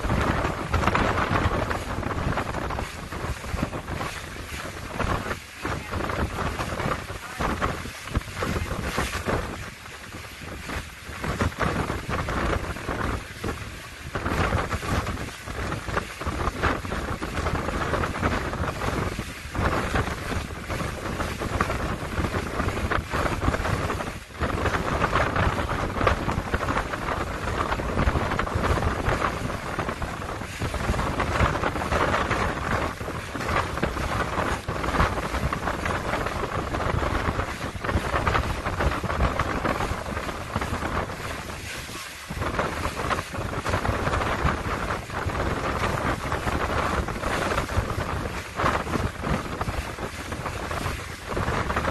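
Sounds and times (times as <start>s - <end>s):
boat motor: 0.0s - 51.9s
water running past hull: 0.0s - 51.9s
wind on microphone: 0.0s - 51.9s.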